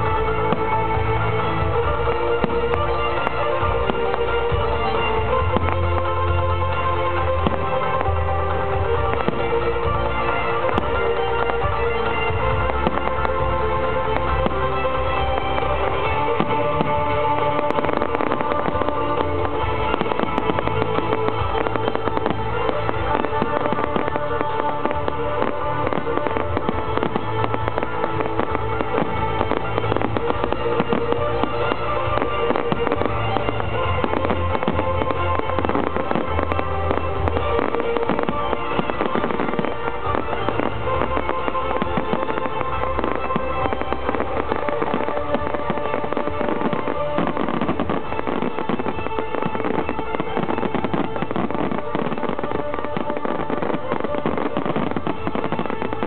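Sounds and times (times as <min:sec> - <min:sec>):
fireworks crackling and popping: 0:00.0 - 0:56.0
loud music: 0:00.0 - 0:56.0.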